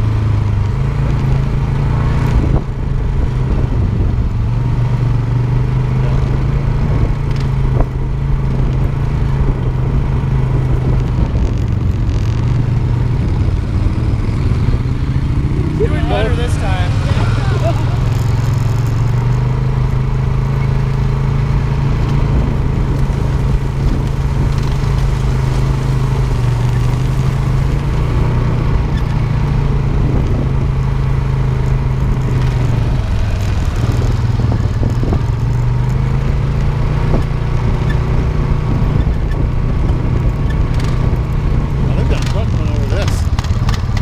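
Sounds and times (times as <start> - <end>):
atv engine running: 0.0 - 44.0.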